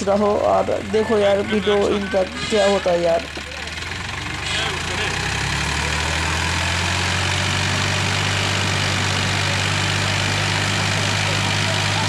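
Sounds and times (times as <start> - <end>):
heavy truck engine under load: 0.0 - 12.0.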